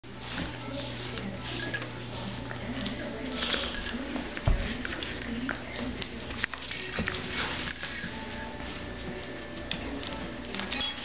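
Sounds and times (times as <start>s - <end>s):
dogs scuffling on rug: 0.1s - 10.7s.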